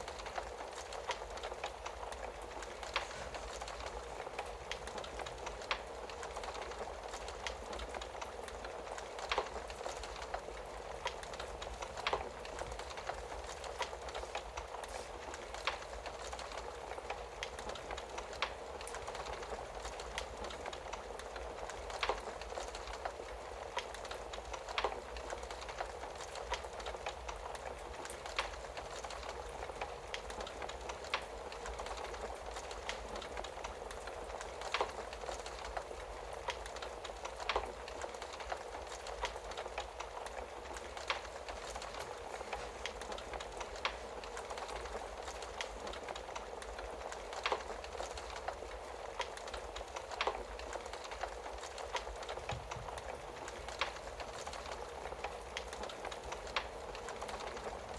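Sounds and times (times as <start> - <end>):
hiss of burning wood: 0.0 - 57.9.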